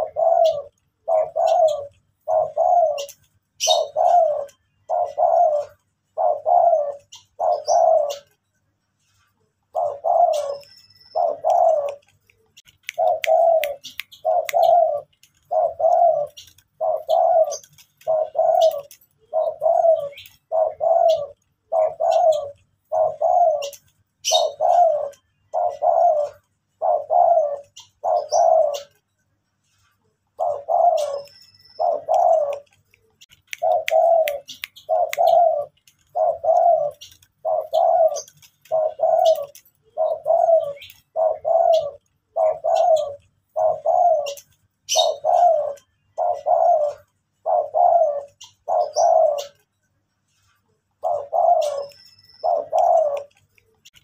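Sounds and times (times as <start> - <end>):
dove cooing: 0.0 - 8.4, 9.6 - 29.0, 30.3 - 49.7, 51.0 - 54.0.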